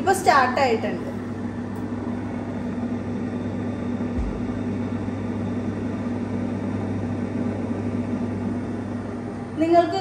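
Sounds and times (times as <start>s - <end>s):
air fryer fan whirring: 0.0s - 10.0s.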